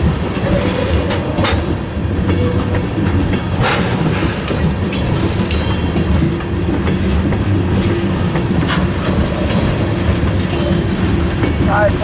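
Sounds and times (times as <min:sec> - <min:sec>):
freight train wheels clacking: 0:00.0 - 0:12.0.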